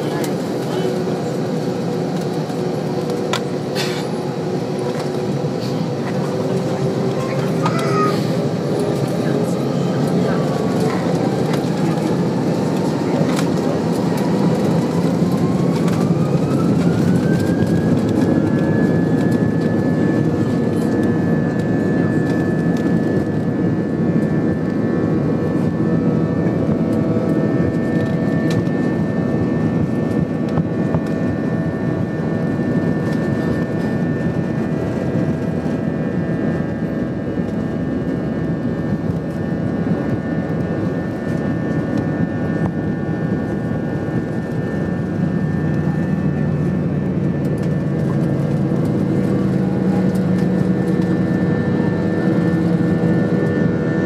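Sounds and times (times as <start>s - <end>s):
heavy rumble of takeoff roll: 0.0s - 54.0s.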